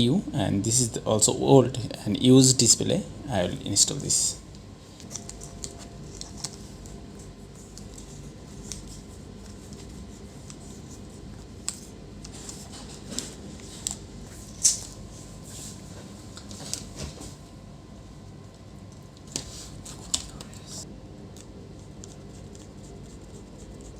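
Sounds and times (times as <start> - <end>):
low background hum: 0.0 - 23.9.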